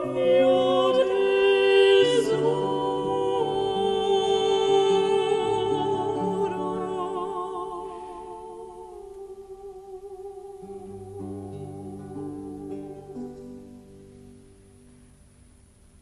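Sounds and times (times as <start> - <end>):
female opera voices with vibrato: 0.0 - 14.2.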